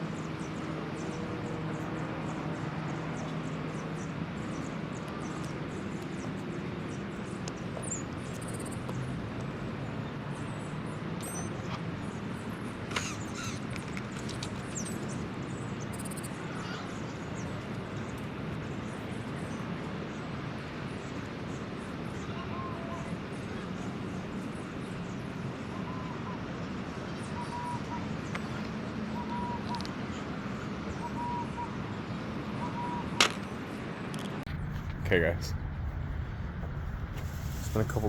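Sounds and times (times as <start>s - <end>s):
outdoor background noise: 0.0s - 38.0s.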